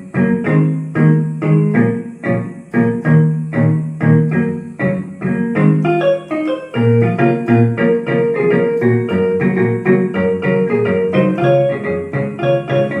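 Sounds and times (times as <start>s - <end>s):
keyboard playing plucked guitar notes: 0.0s - 13.0s.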